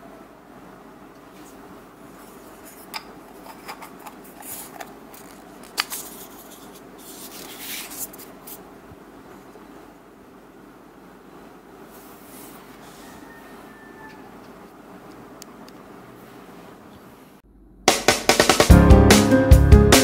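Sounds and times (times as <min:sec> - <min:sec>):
steady background hiss: 0:00.0 - 0:18.7.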